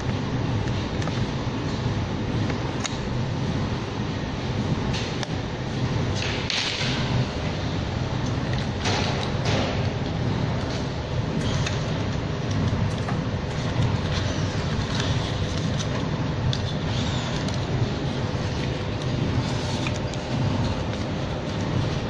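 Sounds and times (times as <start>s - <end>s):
machine rumble and hum: 0.0s - 22.0s.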